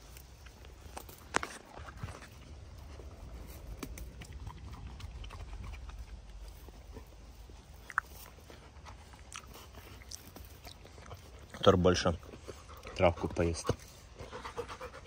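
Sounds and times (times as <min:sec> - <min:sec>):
dog chewing plants: 0:00.0 - 0:15.0.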